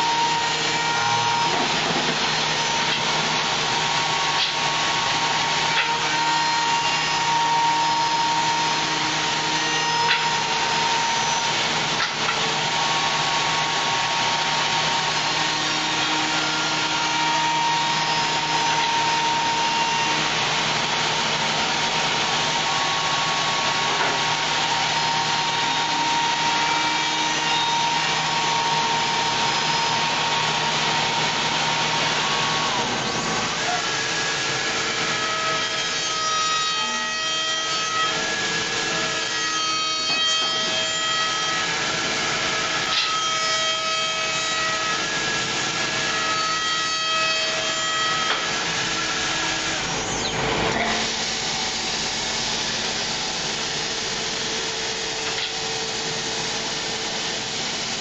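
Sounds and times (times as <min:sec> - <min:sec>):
cnc machine milling wood: 0:00.0 - 0:58.0.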